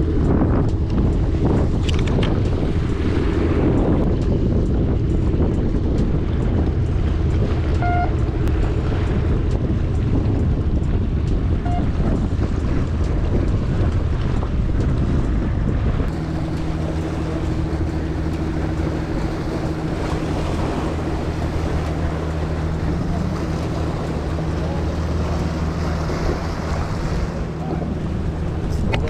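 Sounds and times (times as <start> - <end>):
steady low hum: 0.0 - 29.0
wind buffeting microphone: 0.0 - 29.0.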